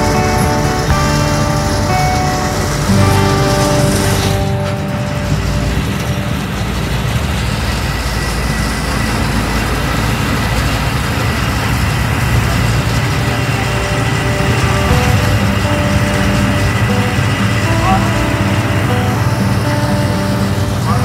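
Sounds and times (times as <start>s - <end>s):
motor vehicle rumble: 0.0s - 21.0s.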